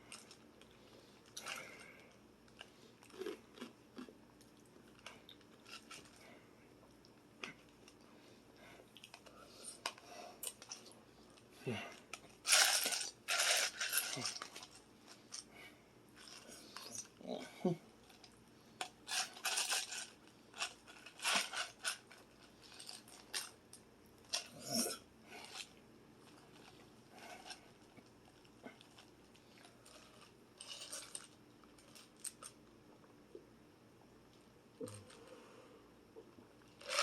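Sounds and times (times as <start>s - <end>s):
crunching and chewing: 0.0s - 8.1s, 8.8s - 17.2s, 18.0s - 33.4s.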